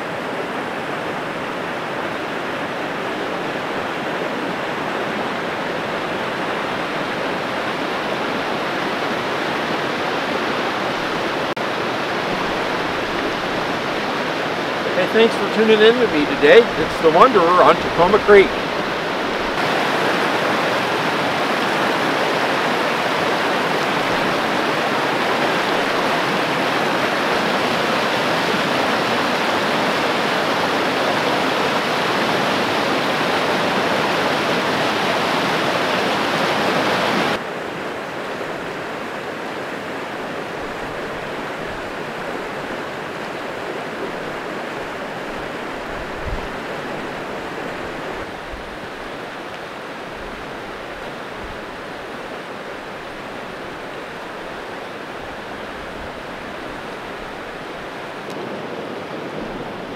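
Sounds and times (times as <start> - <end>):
creek rushing over rocks: 0.0 - 59.9.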